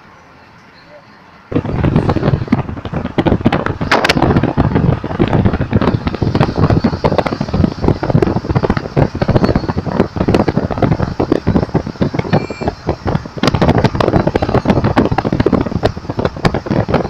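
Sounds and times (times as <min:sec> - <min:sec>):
road noise: 0:00.0 - 0:17.0
wind buffeting microphone: 0:01.5 - 0:17.0.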